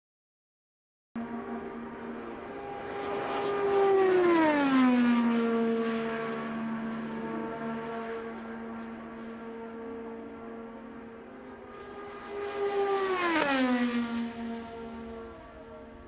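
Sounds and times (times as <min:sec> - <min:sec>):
race car engine whine passing: 0:01.2 - 0:16.0.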